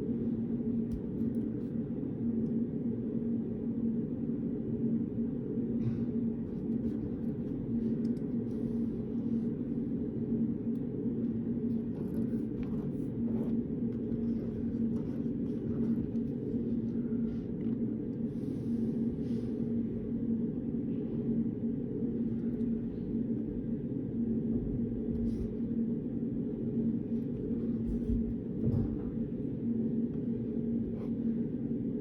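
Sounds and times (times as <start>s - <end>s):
low room hum with tone: 0.0s - 32.0s.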